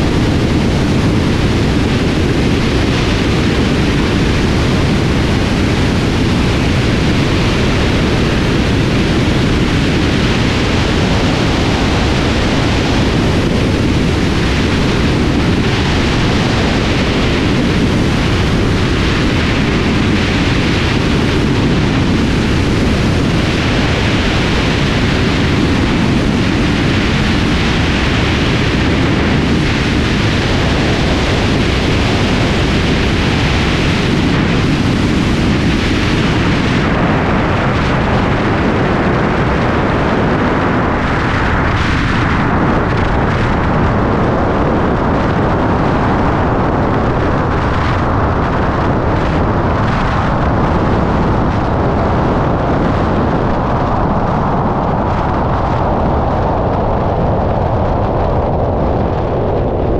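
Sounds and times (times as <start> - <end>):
low rumble: 0.0 - 59.9
wind rushing over microphone: 0.0 - 59.9.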